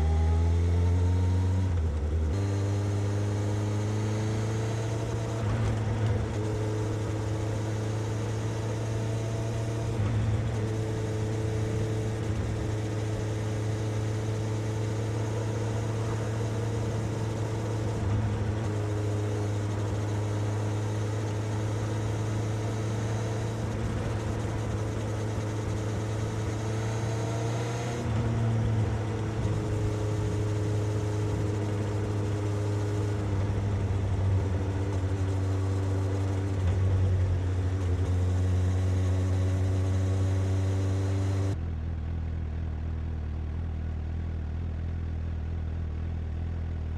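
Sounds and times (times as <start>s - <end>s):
motorcycle engine and exhaust: 0.0s - 46.9s.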